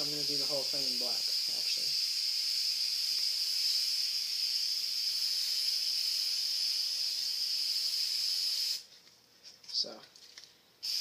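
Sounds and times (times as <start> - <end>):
spray paint can hissing: 0.0 - 8.9.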